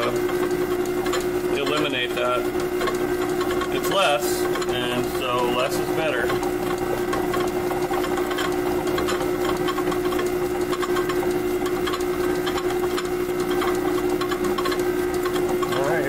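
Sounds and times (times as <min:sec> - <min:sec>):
boring bar cutting metal: 0:00.0 - 0:16.0
metal lathe humming: 0:00.0 - 0:16.0.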